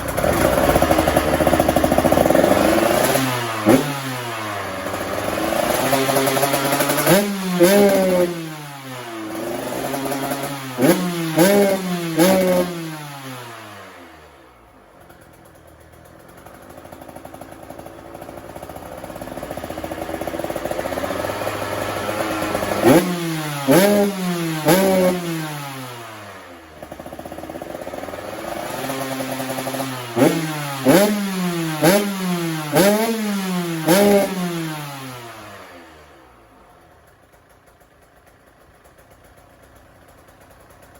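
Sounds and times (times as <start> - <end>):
engine idling: 0.0 - 40.9
two-stroke engine revving: 0.0 - 40.9.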